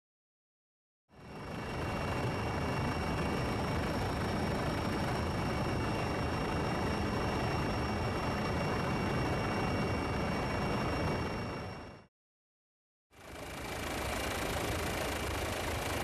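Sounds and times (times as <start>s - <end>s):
helicopter rotor and engine noise: 1.1s - 12.1s, 13.1s - 16.0s.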